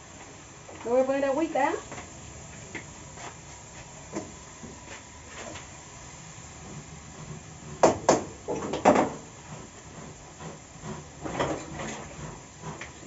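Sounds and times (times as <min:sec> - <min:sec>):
frying pan hissing: 0:00.0 - 0:13.0.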